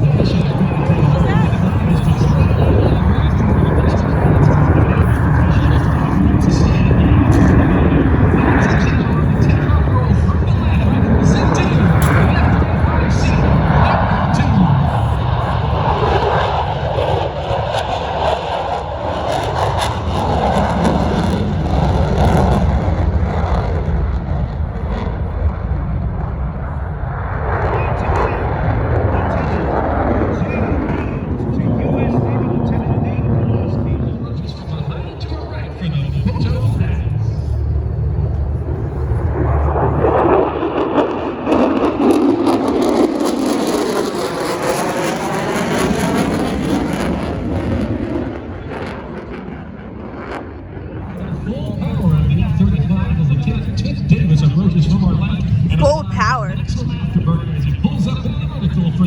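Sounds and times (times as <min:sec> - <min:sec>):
jet engine rumble in flight: 0:00.0 - 0:59.0.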